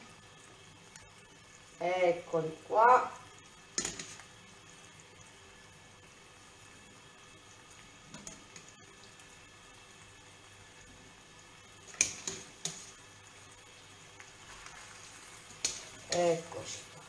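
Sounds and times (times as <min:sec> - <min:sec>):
pots on stove background: 0:00.0 - 0:17.0.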